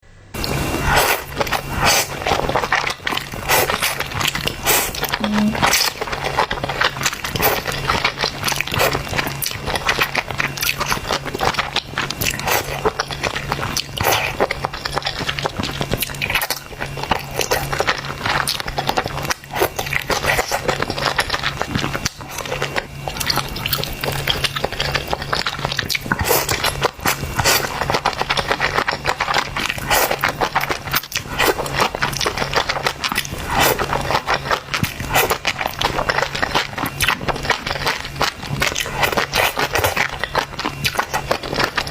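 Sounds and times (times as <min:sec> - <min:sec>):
steady low hum: 0:00.1 - 0:41.9
eating clicks and scrapes: 0:00.4 - 0:41.9
person chewing and slurping noodles: 0:00.4 - 0:41.9.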